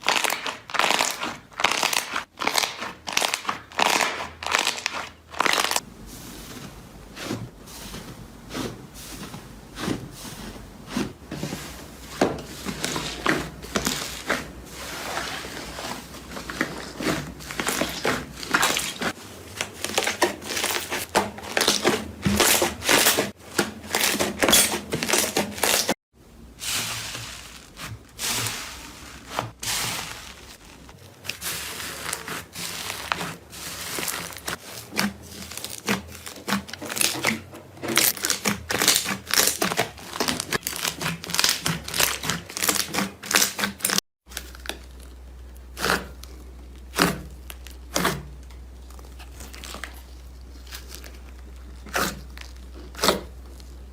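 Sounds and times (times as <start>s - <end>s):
slime crackling and crunching: 0.0s - 5.8s, 12.6s - 26.0s, 26.6s - 53.9s.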